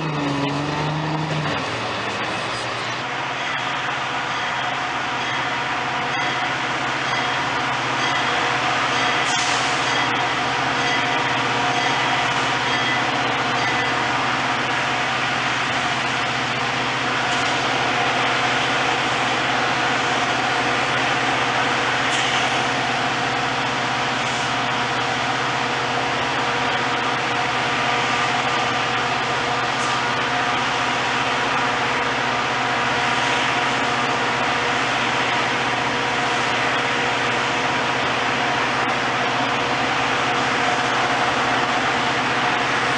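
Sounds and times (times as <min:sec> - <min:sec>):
diesel locomotive idling: 0:00.0 - 0:42.9.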